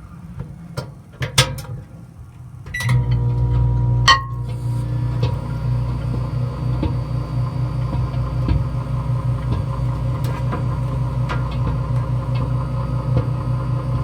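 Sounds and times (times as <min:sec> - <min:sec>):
microwave oven humming: 0:02.2 - 0:14.0.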